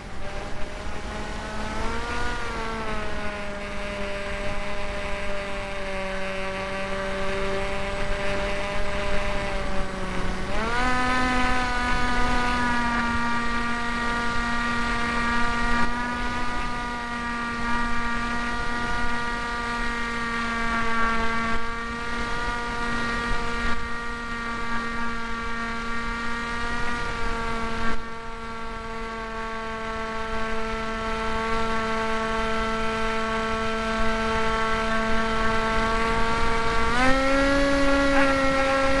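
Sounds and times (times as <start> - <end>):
model plane motor whine: 0.0 - 39.0.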